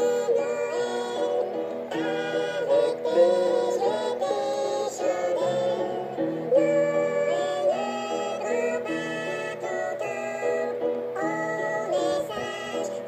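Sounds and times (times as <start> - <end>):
high-pitched voices singing: 0.0 - 13.0
instrumental backing: 0.0 - 13.0.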